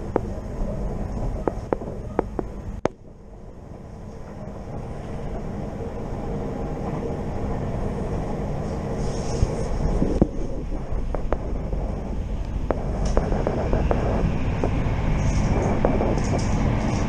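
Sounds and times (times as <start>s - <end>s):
faint steady hum: 0.0s - 17.0s
train rumbling along track: 0.0s - 17.0s.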